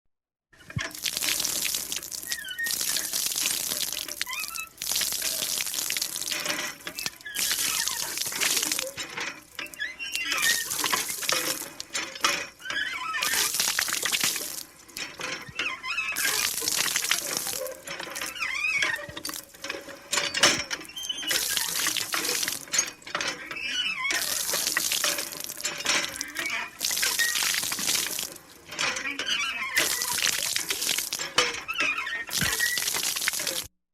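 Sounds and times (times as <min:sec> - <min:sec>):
pump handle squeaking: 0:00.6 - 0:33.7
water gushing from spout: 0:00.6 - 0:33.8.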